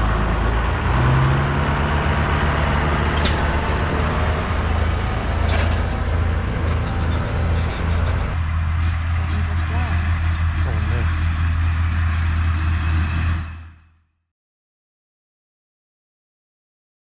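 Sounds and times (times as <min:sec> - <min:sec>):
heavy vehicle engine running: 0:00.0 - 0:14.0.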